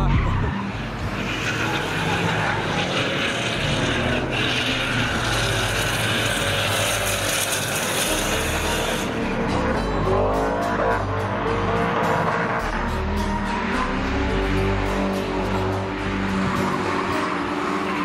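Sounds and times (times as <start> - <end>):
car engines revving high: 0.0 - 18.0
tyres skidding on tarmac: 0.1 - 18.0.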